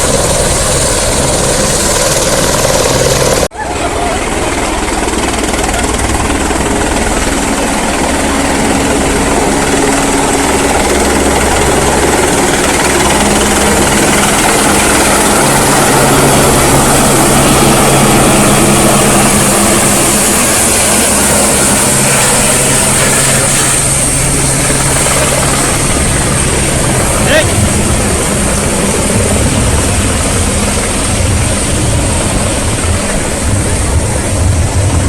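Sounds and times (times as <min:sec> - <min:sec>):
helicopter flying overhead: 0:00.0 - 0:35.0.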